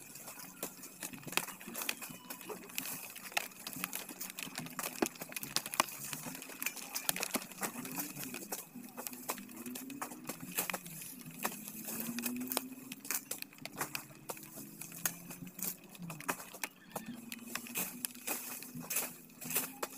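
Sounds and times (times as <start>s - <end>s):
dry leaves and stalks crackling: 0.0s - 19.9s.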